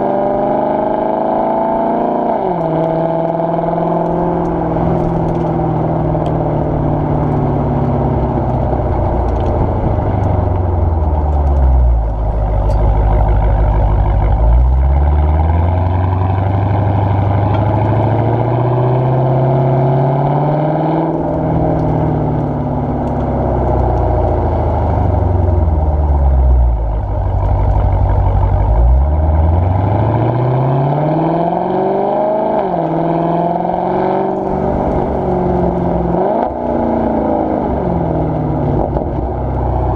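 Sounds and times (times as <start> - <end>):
car exhaust engine note: 0.0 - 39.9.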